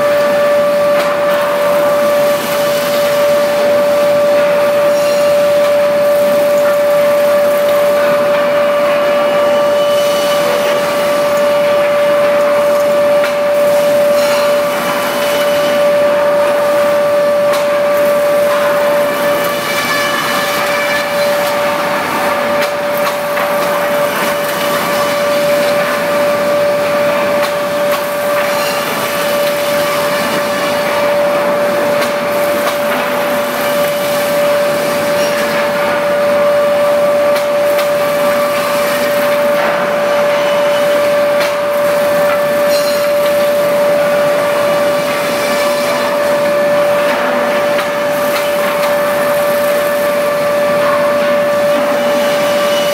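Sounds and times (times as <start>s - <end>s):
wood planing machine whine: 0.0s - 52.9s.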